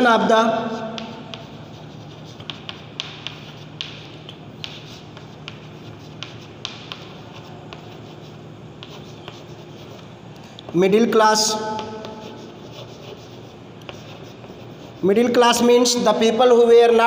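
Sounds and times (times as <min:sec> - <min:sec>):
chalk tapping and scratching: 0:00.6 - 0:10.8, 0:11.4 - 0:15.7.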